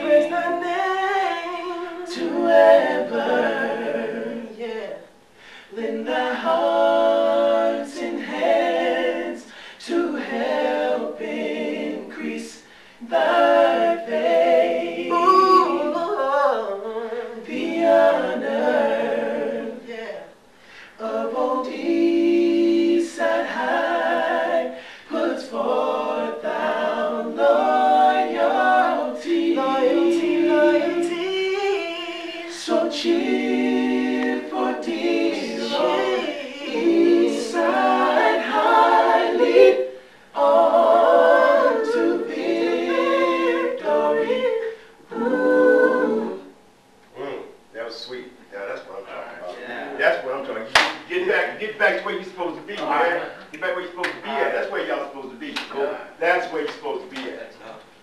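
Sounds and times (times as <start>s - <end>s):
vocal group singing in harmony: 0.0s - 58.0s.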